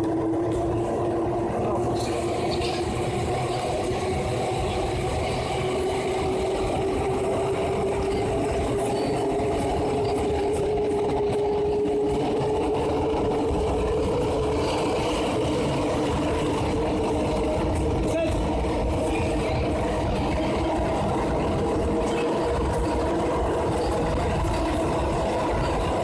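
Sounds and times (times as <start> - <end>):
train rolling rumble in tunnel: 0.0 - 26.0.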